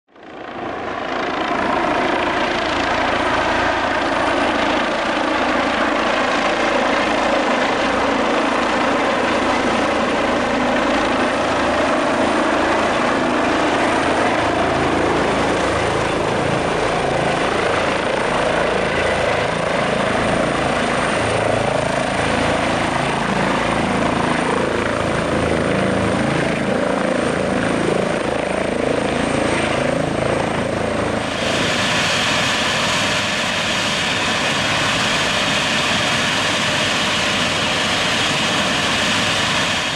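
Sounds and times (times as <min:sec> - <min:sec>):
helicopter rotor and turbine: 0:00.1 - 0:39.9.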